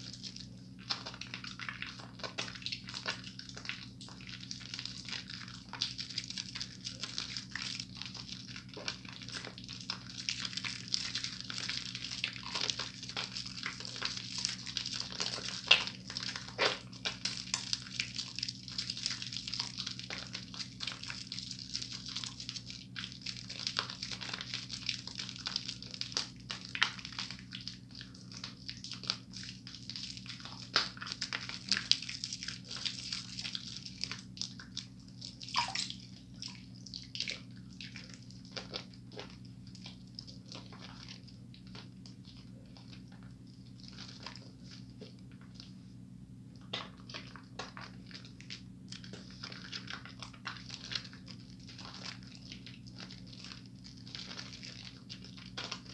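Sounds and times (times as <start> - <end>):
low steady hum: 0.0 - 55.9
soap squishing between hands: 0.0 - 55.9.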